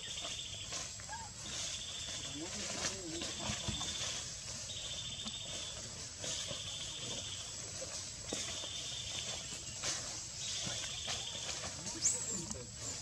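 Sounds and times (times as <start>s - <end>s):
high insect hiss: 0.0s - 13.0s
insect pulsing trills: 0.0s - 13.0s.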